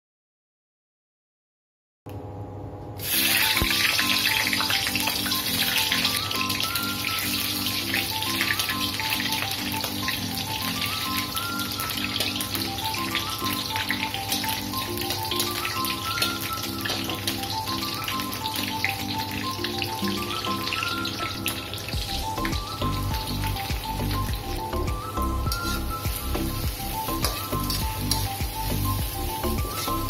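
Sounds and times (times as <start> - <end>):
lemongrass sizzling in hot oil: 3.0 - 30.0
background music with bouncy beat: 3.2 - 30.0.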